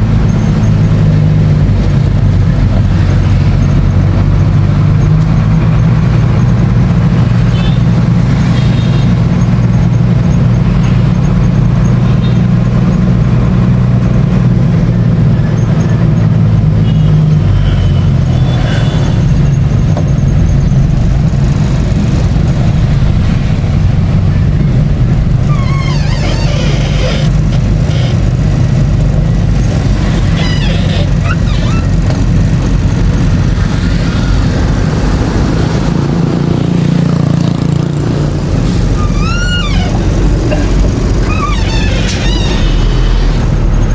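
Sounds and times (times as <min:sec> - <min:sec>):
road noise: 0:00.0 - 0:43.9
vehicle engine drone: 0:00.0 - 0:43.9.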